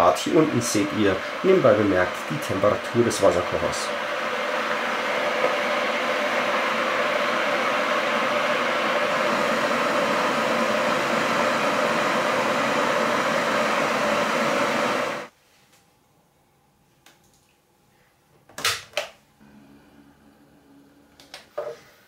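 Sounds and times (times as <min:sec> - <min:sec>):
electric kettle hissing: 0:00.0 - 0:15.3, 0:19.4 - 0:22.0.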